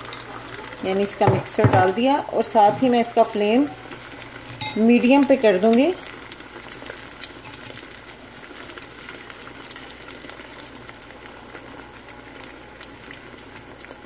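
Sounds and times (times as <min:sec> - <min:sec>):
omelette sizzling in oil: 0:00.0 - 0:14.0.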